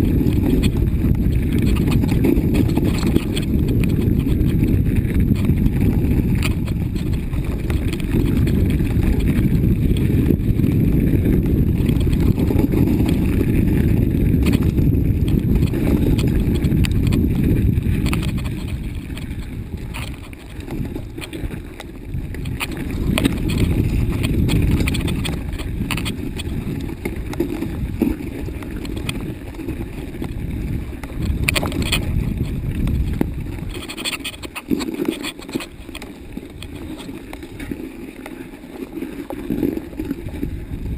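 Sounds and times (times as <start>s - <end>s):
bike rattles and knocks: 0.0s - 40.9s
bike tyres rumbling on trail: 0.0s - 40.9s.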